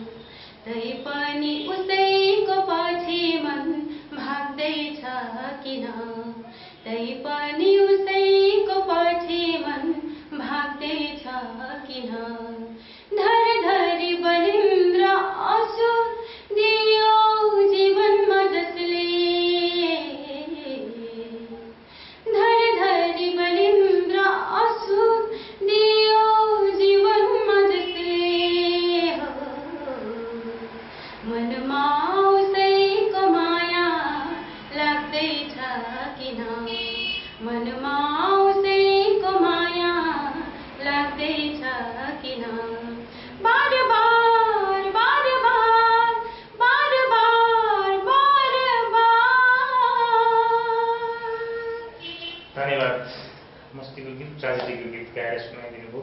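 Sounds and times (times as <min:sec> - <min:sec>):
woman singing unaccompanied: 0:00.0 - 0:52.1.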